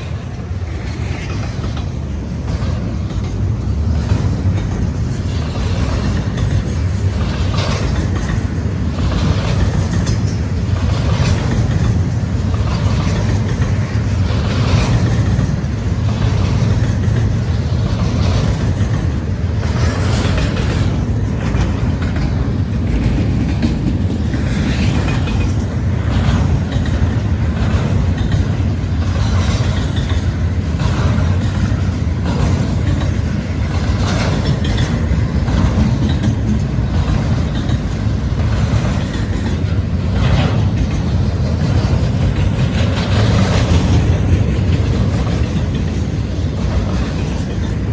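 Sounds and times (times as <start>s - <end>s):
freight train rumbling past: 0.0s - 47.9s
wheel clacks over rail joints: 0.0s - 47.9s.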